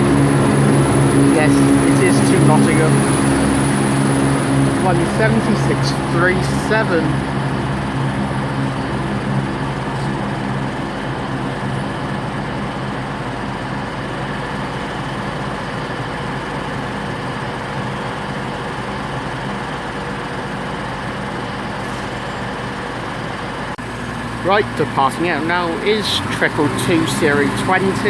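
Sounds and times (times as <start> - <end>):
diesel train engine rumbling: 0.0 - 28.0.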